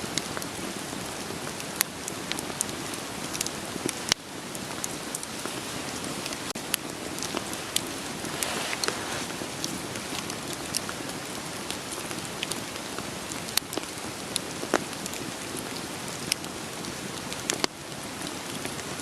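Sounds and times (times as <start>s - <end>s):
steady rain hiss: 0.0s - 19.0s
firewood crackling: 0.1s - 19.0s.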